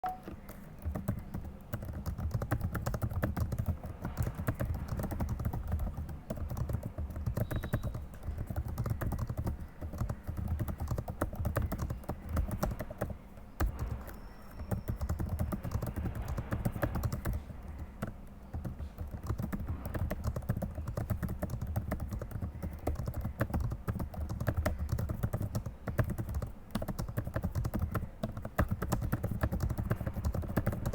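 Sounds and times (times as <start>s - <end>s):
fast typing on keyboard: 0.0s - 30.9s.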